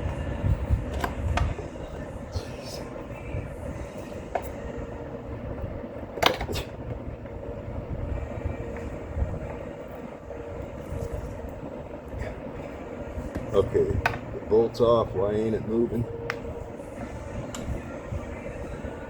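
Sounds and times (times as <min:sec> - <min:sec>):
low rumble and hum: 0:00.0 - 0:19.0.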